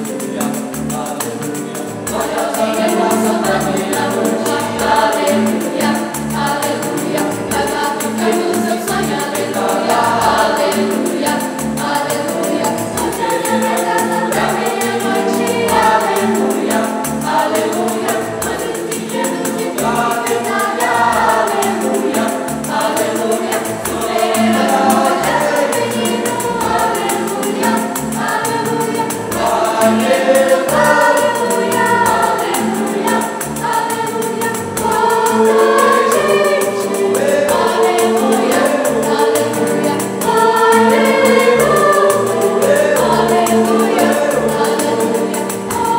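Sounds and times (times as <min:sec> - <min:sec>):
tambourine: 0:00.0 - 0:45.9
youth choir singing: 0:00.0 - 0:45.9.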